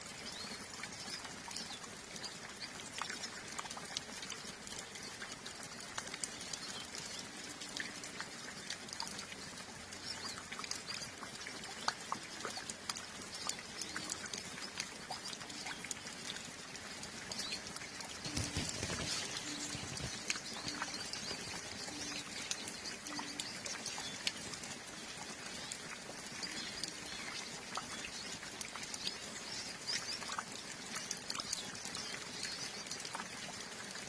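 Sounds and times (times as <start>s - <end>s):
drips pattering and clicking: 0.0s - 34.0s
rain falling: 0.0s - 34.0s.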